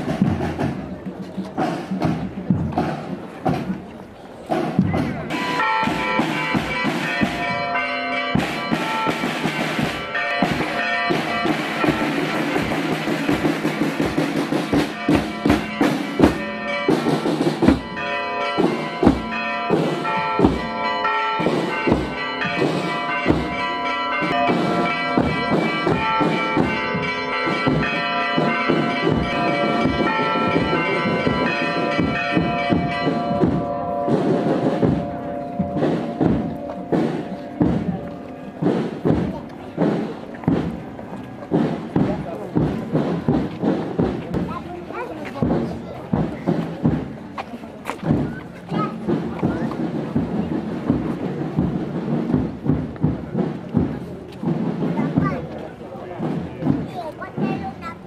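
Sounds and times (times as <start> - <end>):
church bells pealing: 4.9 - 58.0.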